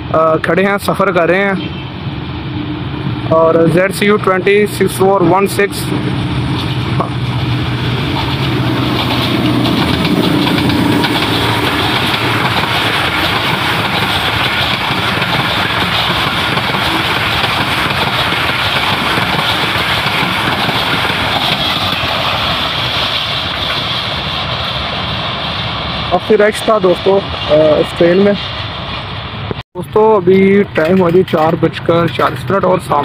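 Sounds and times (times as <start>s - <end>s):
locomotive engine hum: 0.0s - 33.0s
train wheels rumbling on rails: 0.0s - 33.0s.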